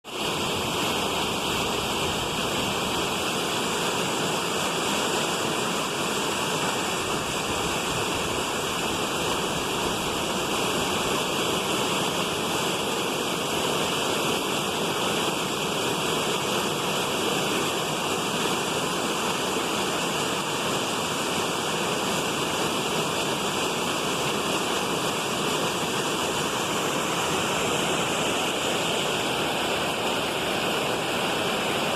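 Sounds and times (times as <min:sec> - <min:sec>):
waterfall rushing: 0:00.1 - 0:31.9.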